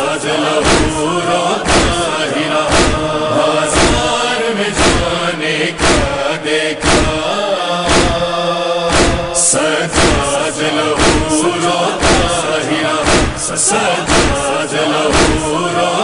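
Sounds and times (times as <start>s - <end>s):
heavy beats: 0.0s - 16.0s
voices chanting in chorus: 0.0s - 16.0s.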